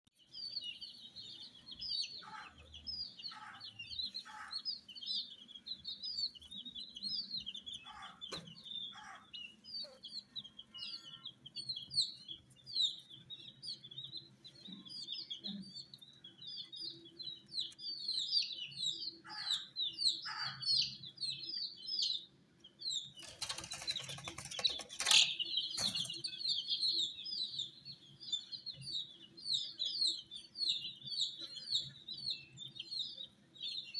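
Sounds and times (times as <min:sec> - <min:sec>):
baby chicks peeping: 0:00.2 - 0:33.9.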